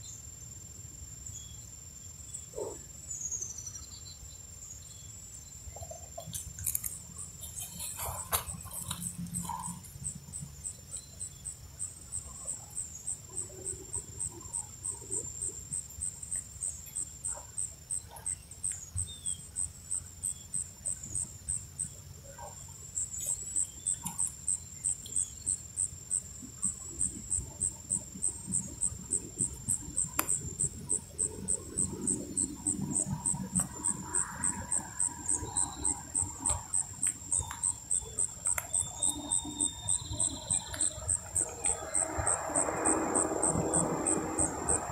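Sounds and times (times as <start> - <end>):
insect chirping: 0.0 - 44.9.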